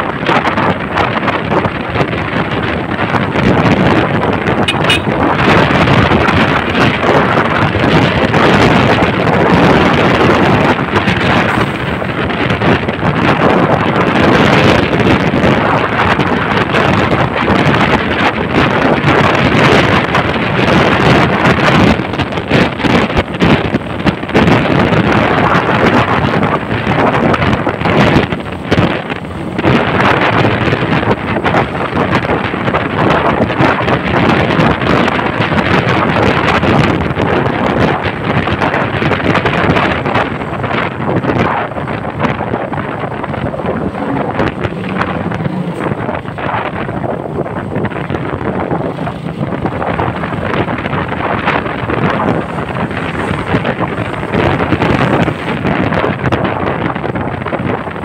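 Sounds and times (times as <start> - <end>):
moving vehicle rumble: 0.0 - 58.0
wind buffeting microphone: 0.0 - 58.0.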